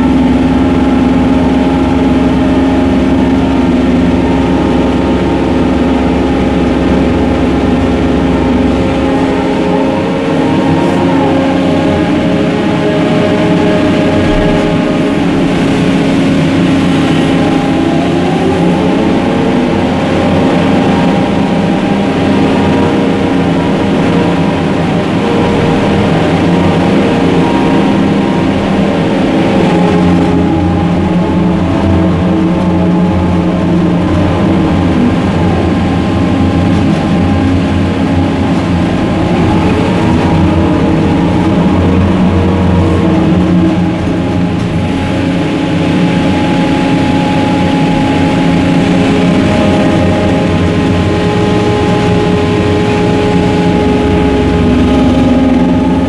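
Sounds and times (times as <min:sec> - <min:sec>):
crane machinery drone: 0:00.0 - 0:56.0.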